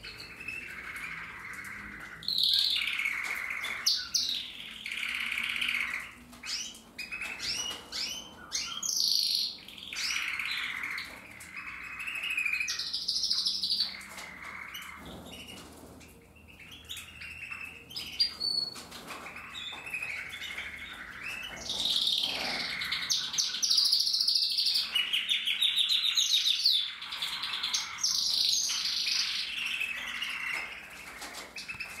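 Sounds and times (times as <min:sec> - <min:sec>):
canaries singing: 0:00.0 - 0:32.0.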